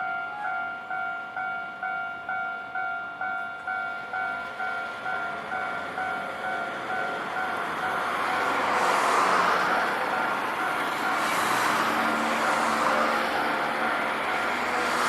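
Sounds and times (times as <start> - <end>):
approaching tram: 0.0 - 15.0.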